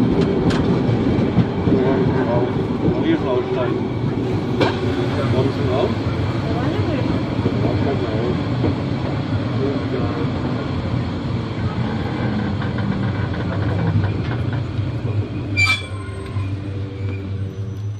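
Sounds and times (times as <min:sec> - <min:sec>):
train carriage rumbling: 0:00.0 - 0:17.9.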